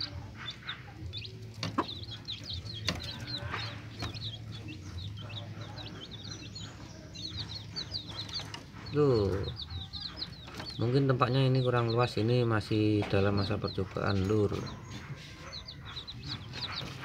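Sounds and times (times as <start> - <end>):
buttonquail chirping: 0.0 - 17.0.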